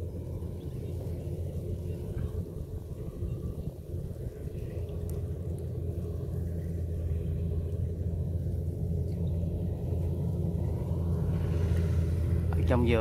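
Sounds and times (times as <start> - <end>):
combine harvester engine rumbling: 0.0 - 13.0.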